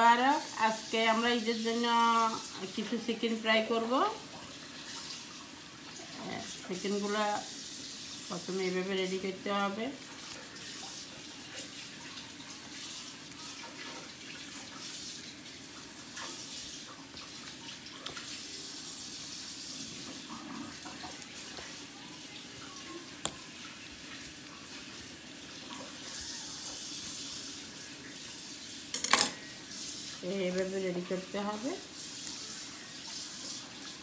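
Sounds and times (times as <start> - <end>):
kitchen tap running: 0.0 - 34.0.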